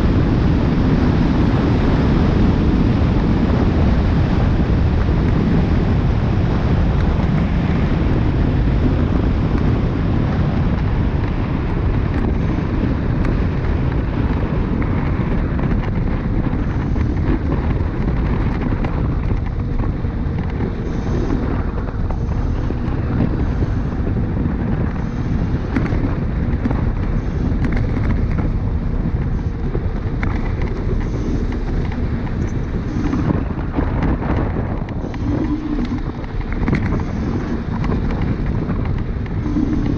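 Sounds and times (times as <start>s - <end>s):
tyres rumbling on rough asphalt: 0.0s - 39.9s
wind rushing over microphone: 0.0s - 39.9s.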